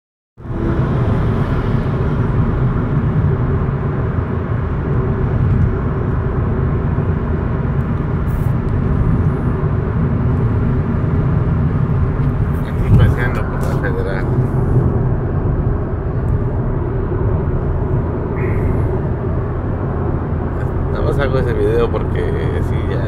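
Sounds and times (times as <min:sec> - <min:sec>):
car cabin road and engine drone: 0:00.4 - 0:23.0.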